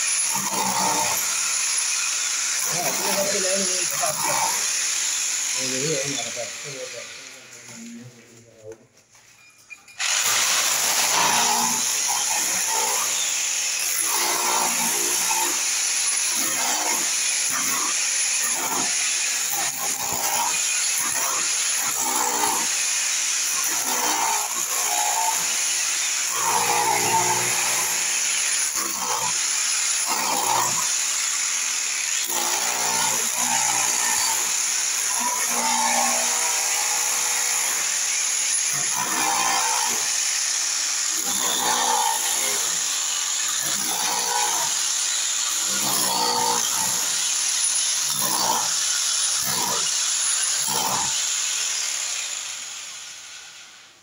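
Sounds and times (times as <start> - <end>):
electric power tool on concrete: 0.0 - 8.1, 9.7 - 54.0.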